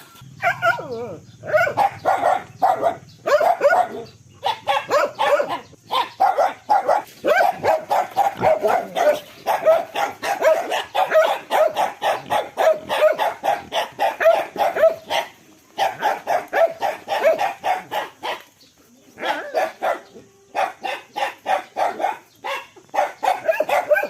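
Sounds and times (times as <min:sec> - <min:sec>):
dog barking: 0:00.4 - 0:18.5, 0:19.2 - 0:24.0.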